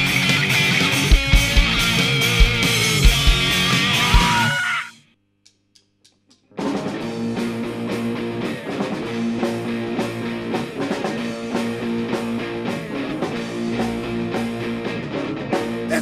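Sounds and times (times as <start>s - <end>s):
rock band playing: 0.0s - 4.9s, 6.6s - 16.0s.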